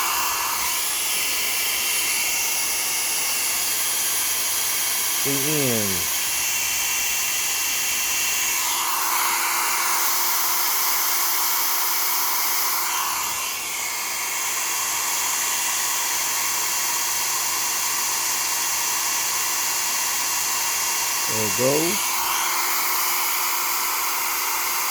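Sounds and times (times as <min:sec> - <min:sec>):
hot-air dryer blowing: 0:00.0 - 0:24.9.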